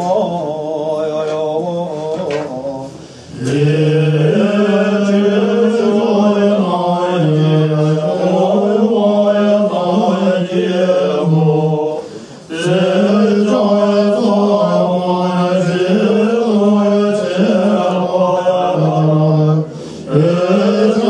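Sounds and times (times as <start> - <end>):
monks chanting together: 0.0 - 21.0.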